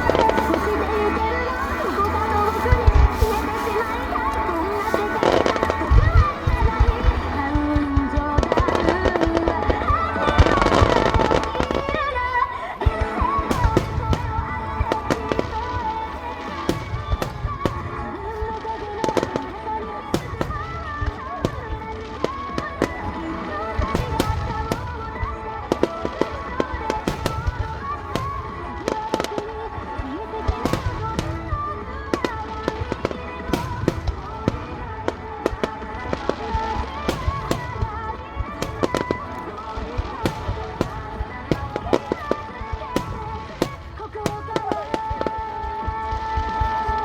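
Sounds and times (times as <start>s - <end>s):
fireworks bursting: 0.0s - 47.0s
music playing: 0.0s - 47.0s
voices: 0.0s - 47.0s.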